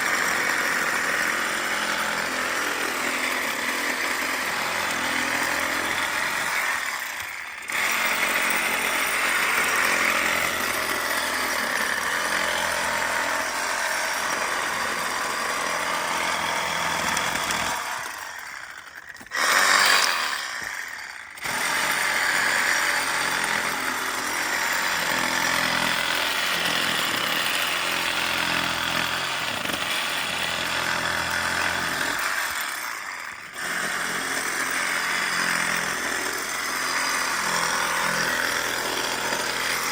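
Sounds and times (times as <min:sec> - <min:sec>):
reciprocating saw cutting branches: 0:00.0 - 0:39.9.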